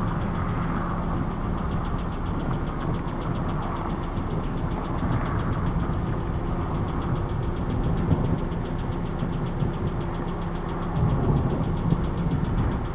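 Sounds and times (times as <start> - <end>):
vehicle engine idling: 0.0 - 12.9.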